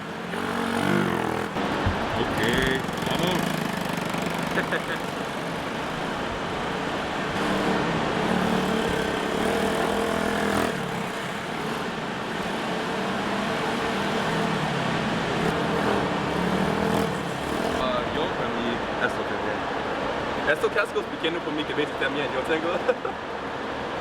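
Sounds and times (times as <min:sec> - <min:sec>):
small motorcycle engines revving: 0:00.0 - 0:24.0.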